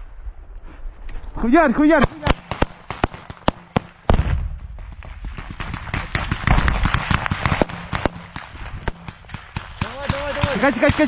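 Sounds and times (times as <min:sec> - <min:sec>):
gunshots cracking: 0:01.9 - 0:11.0.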